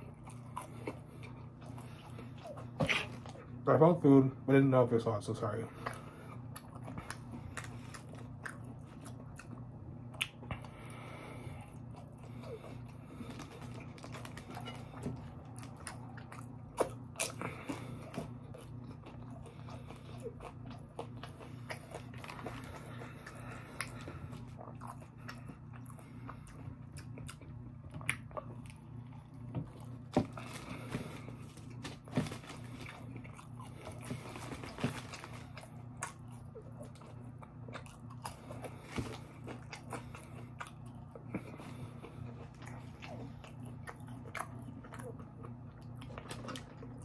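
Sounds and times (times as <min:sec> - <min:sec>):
chewing crispy fried food: 0:00.0 - 0:47.0
steady low hum: 0:00.0 - 0:47.0.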